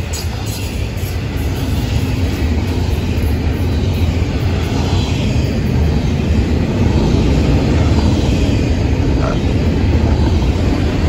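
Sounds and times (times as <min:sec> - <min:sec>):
steel train wheels rumbling on rails: 0:00.0 - 0:11.0.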